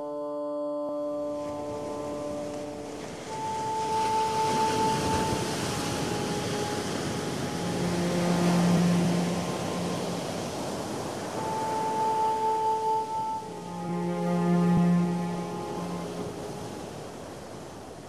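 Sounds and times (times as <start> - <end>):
slow ambient music: 0.0 - 18.0
heavy surf roaring: 1.1 - 18.0.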